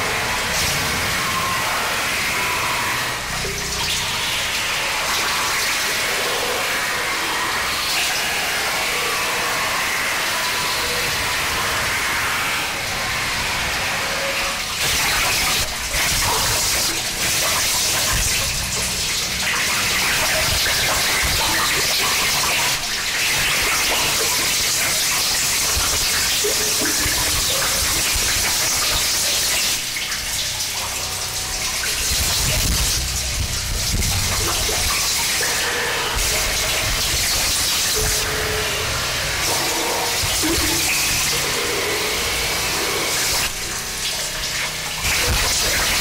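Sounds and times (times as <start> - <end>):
harsh static noise music: 0.0 - 46.0.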